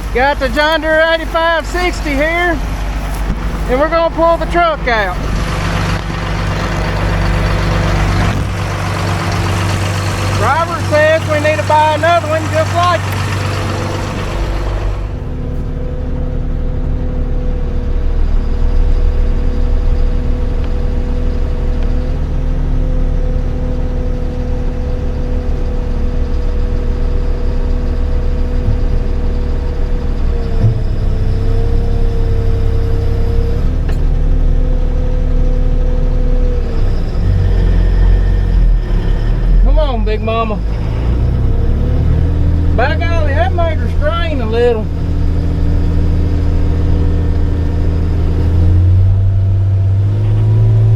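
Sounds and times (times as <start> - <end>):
tractor diesel engine droning: 0.0 - 50.9.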